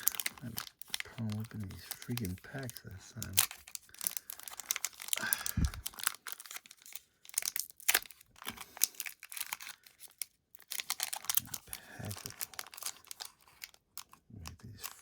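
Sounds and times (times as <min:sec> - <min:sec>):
foil wrapper tearing and crinkling: 0:00.0 - 0:14.2.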